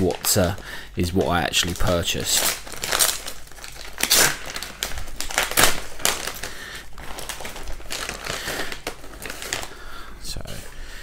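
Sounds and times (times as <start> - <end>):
foil pouch crinkling: 0.0 - 10.0.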